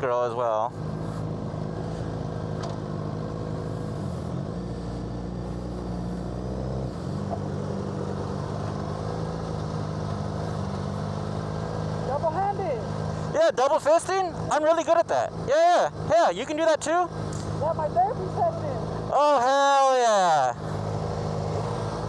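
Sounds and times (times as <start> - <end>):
motorcycle engines idling: 0.0 - 22.0.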